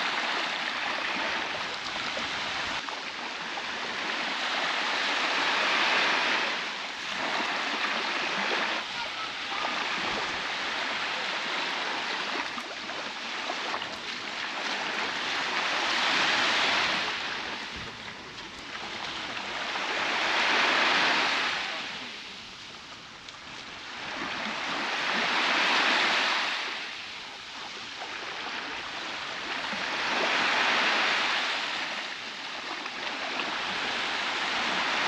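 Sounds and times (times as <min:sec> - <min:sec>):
waves washing onto beach: 0:00.0 - 0:35.0.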